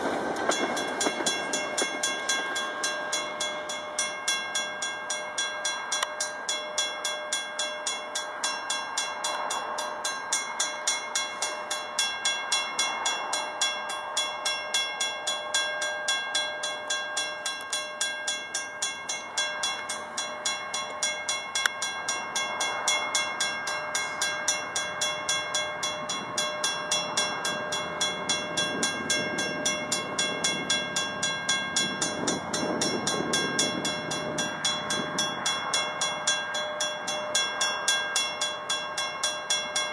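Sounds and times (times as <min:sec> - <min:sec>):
crossing bell ringing: 0:00.0 - 0:39.9
diesel locomotive rumble: 0:00.0 - 0:39.9.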